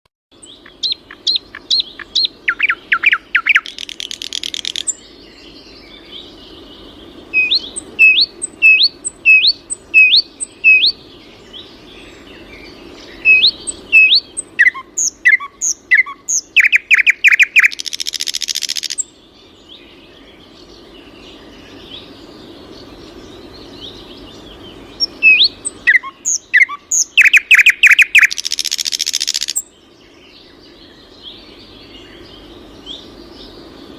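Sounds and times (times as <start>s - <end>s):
songbird singing: 0.3s - 33.9s.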